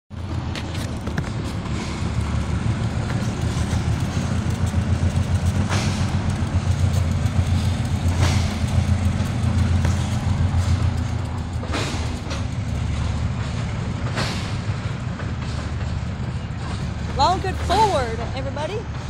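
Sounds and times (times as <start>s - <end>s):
diesel locomotives rumbling: 0.1s - 19.0s.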